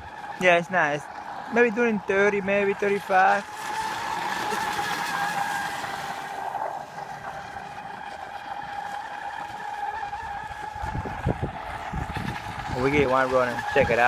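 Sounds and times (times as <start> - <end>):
electric boat motor whine: 0.0 - 14.0.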